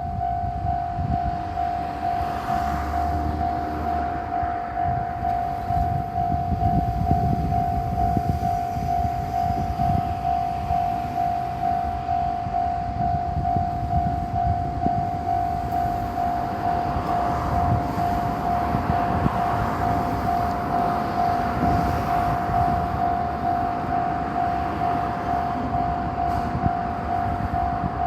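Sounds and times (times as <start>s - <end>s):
diesel railcar rumble and clatter: 0.0s - 28.0s
level crossing warning bell: 0.0s - 28.0s.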